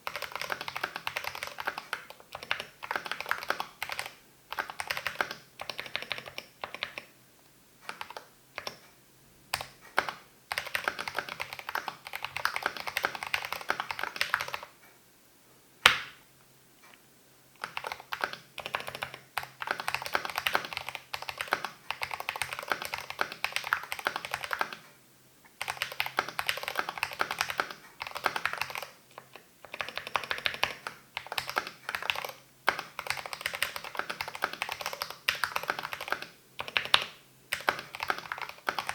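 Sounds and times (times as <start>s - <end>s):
mechanical keyboard typing: 0.0s - 7.1s, 7.9s - 8.8s, 9.5s - 14.7s, 17.6s - 24.8s, 25.6s - 38.9s.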